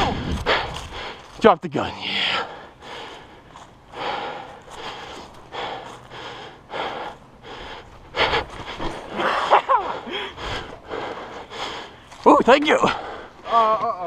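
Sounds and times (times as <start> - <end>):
heavy breathing: 0.0 - 1.4, 2.0 - 13.8.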